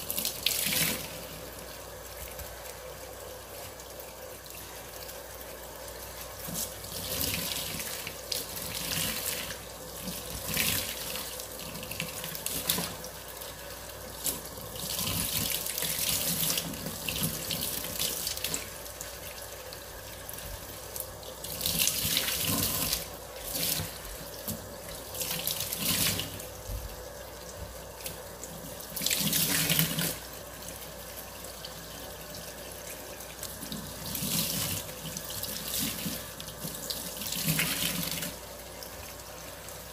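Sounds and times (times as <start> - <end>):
faint steady hum: 0.0 - 39.9
running water splashing: 0.0 - 39.9.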